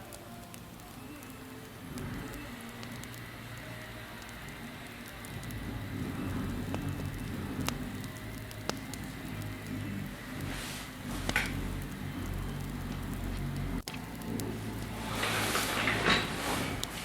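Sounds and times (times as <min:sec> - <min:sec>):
campfire hissing and rumbling: 0:00.0 - 0:17.0
fire crackling and popping: 0:00.0 - 0:17.0.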